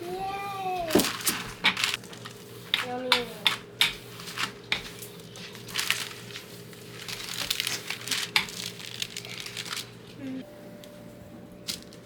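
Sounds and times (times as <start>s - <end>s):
crinkling handling noise: 0.0s - 3.1s, 4.0s - 12.0s.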